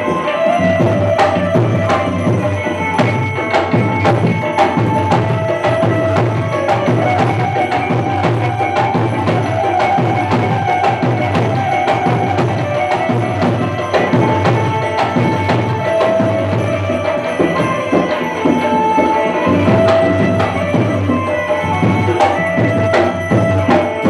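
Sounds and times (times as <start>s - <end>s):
hand percussion beat: 0.0s - 24.0s
held melody line: 0.0s - 24.0s.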